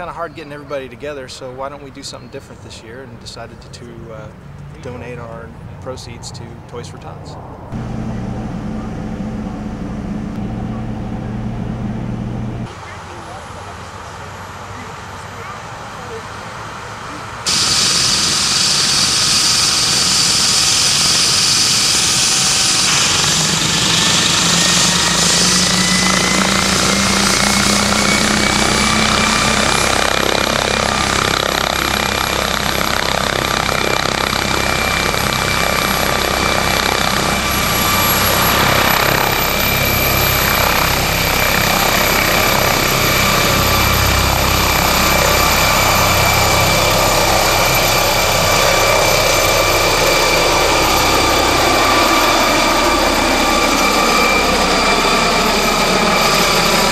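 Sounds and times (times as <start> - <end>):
helicopter rotor turning: 7.0 - 56.9
turbine whine rising in pitch: 7.7 - 56.9.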